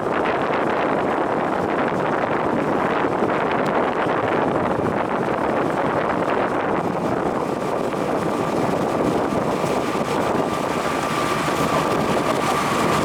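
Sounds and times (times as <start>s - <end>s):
boat engine and water rushing: 0.0s - 13.0s
wind on microphone: 0.0s - 13.0s.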